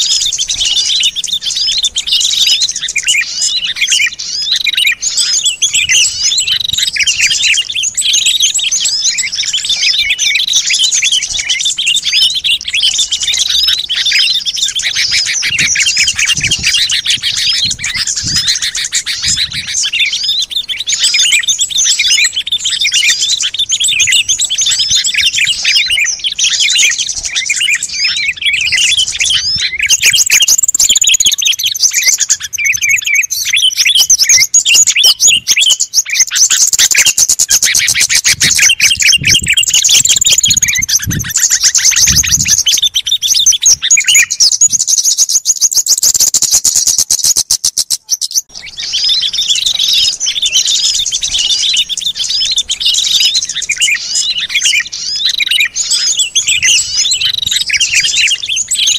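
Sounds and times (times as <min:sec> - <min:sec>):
fast buzzy bird trills: 0:00.0 - 0:58.9
small songbirds chirping: 0:00.0 - 0:58.9.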